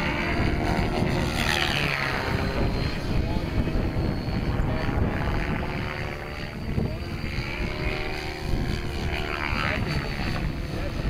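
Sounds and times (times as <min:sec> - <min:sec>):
model helicopter rotor whine: 0:00.0 - 0:11.0
wind rumble on microphone: 0:00.0 - 0:11.0.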